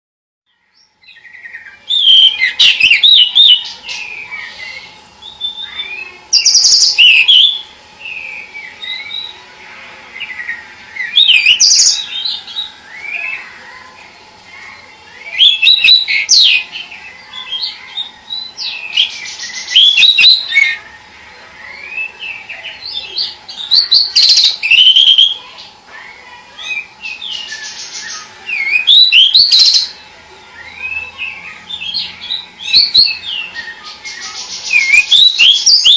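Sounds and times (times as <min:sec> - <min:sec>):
bird singing high warbling phrases: 0:00.5 - 0:35.9.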